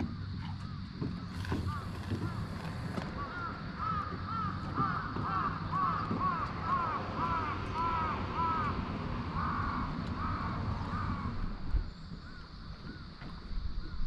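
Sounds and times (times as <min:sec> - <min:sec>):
birds calling: 0:00.1 - 0:14.0.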